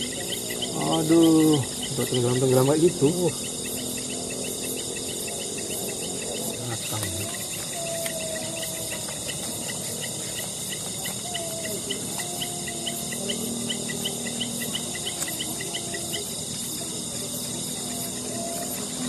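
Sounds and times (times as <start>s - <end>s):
crickets droning: 0.0s - 19.0s
short insect chirps: 0.0s - 19.0s.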